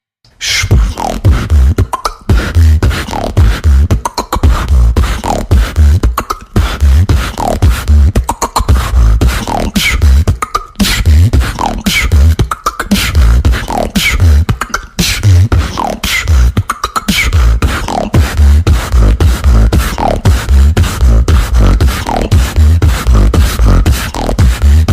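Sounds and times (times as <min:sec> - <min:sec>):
beatboxing: 0:00.3 - 0:24.9.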